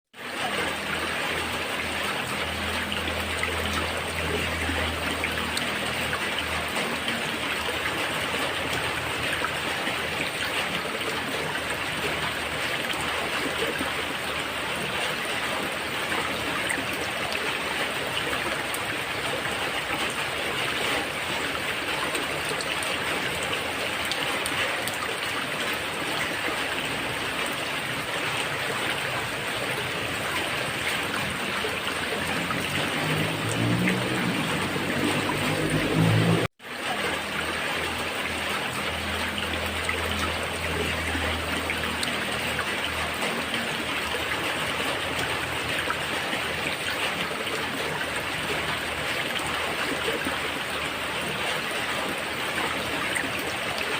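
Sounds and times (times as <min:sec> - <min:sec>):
rain falling on a roof: 0:00.1 - 0:53.9
water trickling: 0:00.2 - 0:53.9.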